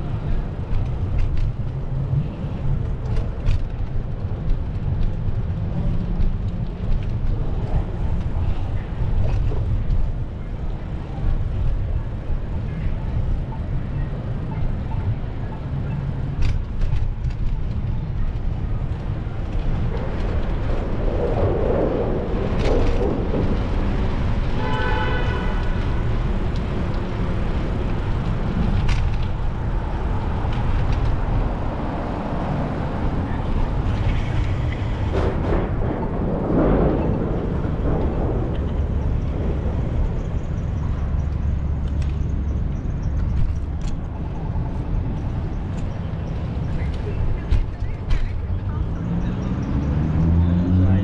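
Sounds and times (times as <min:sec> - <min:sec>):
traffic: 0:00.0 - 0:51.0
wind rumble: 0:00.0 - 0:51.0.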